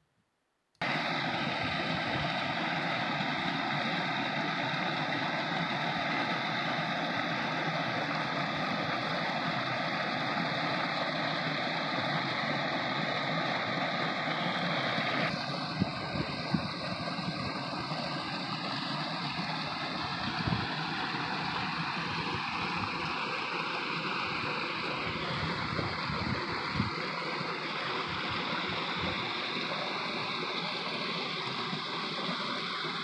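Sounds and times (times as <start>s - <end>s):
stream cascading over rocks: 0.8s - 33.0s.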